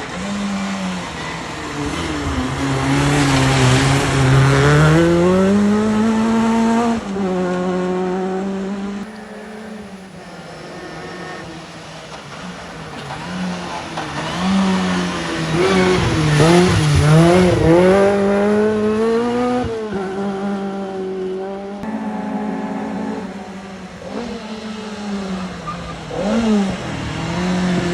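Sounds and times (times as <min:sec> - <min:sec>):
rally car engines revving: 0:00.0 - 0:27.9.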